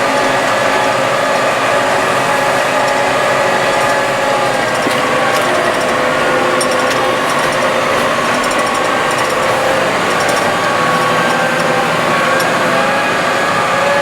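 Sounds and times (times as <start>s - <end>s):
tractor engine droning with whine: 0.0s - 14.0s.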